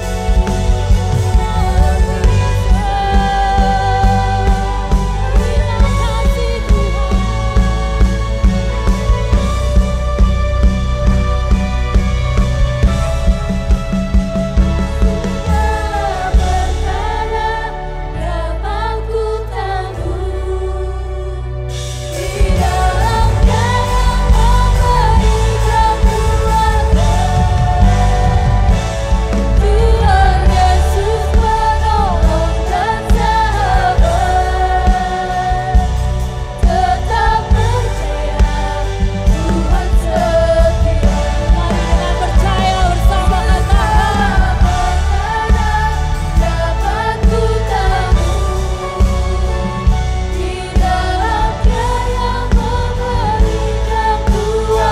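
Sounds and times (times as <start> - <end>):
person singing: 0.0 - 13.1, 14.6 - 54.9
bass and drums beat: 0.0 - 19.1, 21.7 - 54.9
band playing gospel pop song: 0.0 - 54.9.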